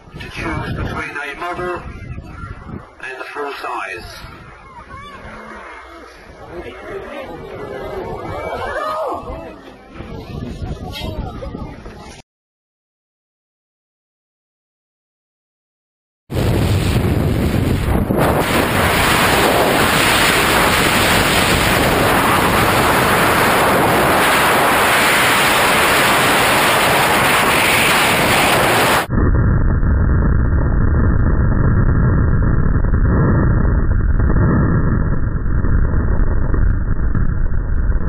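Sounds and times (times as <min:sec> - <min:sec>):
freefall wind buffeting microphone: 0:00.0 - 0:03.0, 0:03.8 - 0:12.2, 0:16.3 - 0:38.0.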